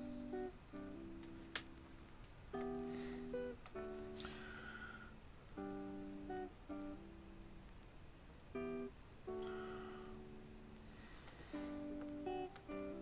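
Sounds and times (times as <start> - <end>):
acoustic guitar chords: 0.0 - 4.8, 5.5 - 7.6, 8.5 - 13.0.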